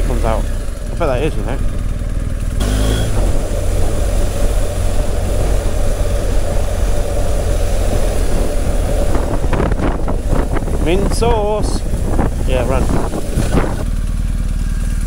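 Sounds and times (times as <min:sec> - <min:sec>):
wind rumble on microphone: 0:00.0 - 0:14.0
motorcycle engine running: 0:00.0 - 0:15.0
steady rushing hiss: 0:00.3 - 0:15.0.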